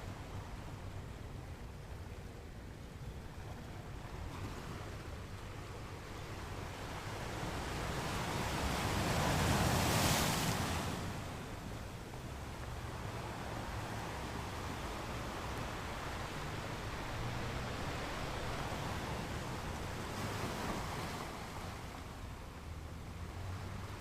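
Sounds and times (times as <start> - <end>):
ocean waves breaking: 3.6 - 24.0.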